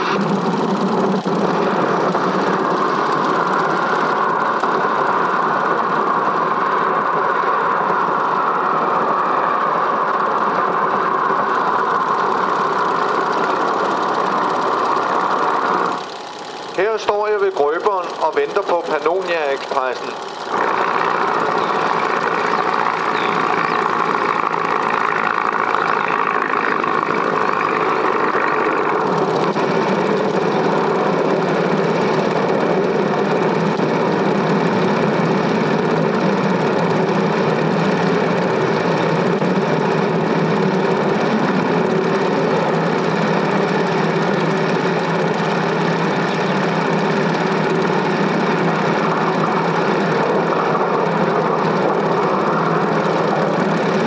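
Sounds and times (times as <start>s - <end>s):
machine running with fast clatter: 0.0s - 54.0s.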